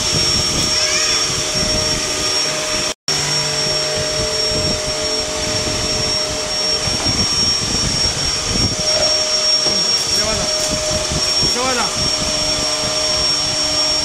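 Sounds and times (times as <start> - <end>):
vacuum cleaner motor running: 0.0 - 14.0.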